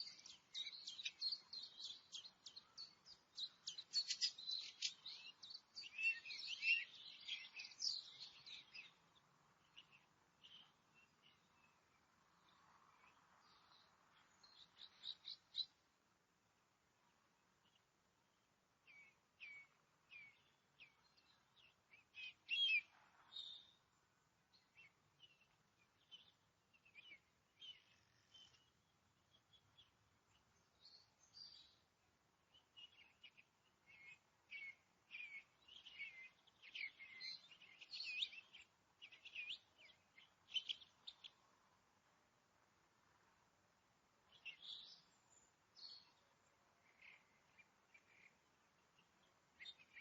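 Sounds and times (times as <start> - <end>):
faint forest birds chirping: 0.0 - 50.0.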